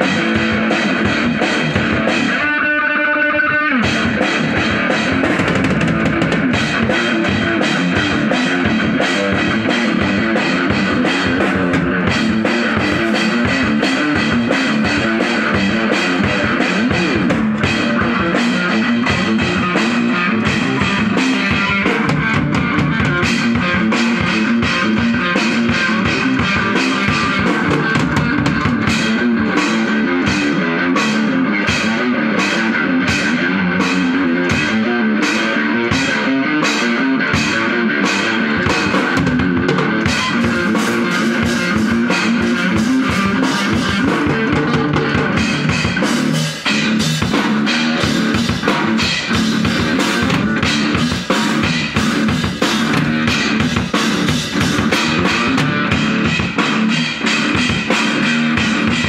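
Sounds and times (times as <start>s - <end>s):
drum kit beat: 0.0s - 2.7s, 3.3s - 59.0s
electric guitar: 0.0s - 59.0s.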